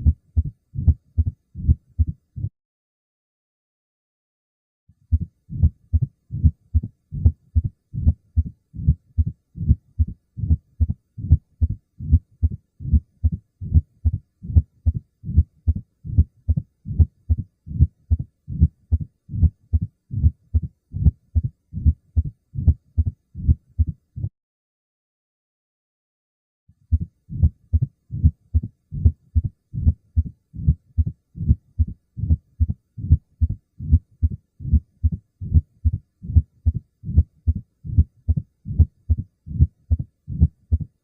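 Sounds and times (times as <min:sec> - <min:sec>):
heartbeats with a murmur: 0:00.0 - 0:02.5, 0:05.0 - 0:24.3, 0:26.8 - 0:41.0.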